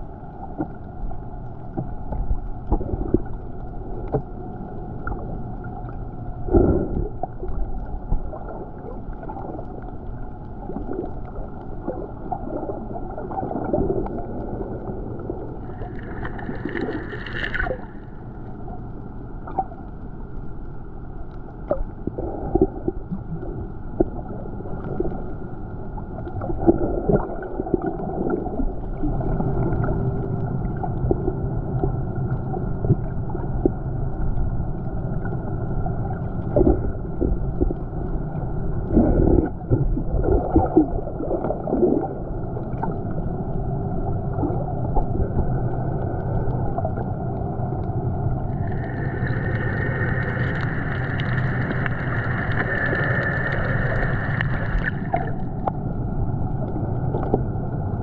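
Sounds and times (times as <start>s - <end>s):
underwater rush of water: 0.0s - 58.0s.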